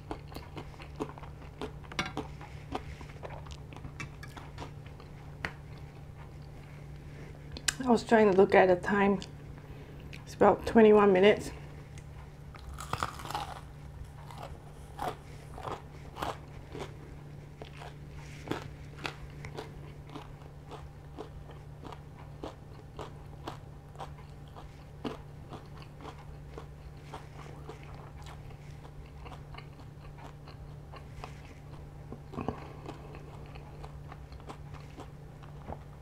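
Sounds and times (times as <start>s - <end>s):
crunchy chewing of fried chicken: 0.0s - 7.8s, 11.8s - 36.0s
low steady hum: 0.0s - 36.0s.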